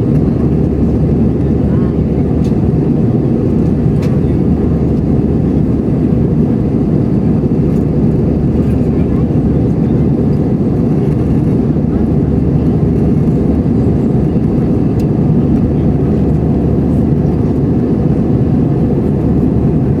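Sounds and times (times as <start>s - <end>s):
airplane cabin engine roar: 0.0s - 20.0s.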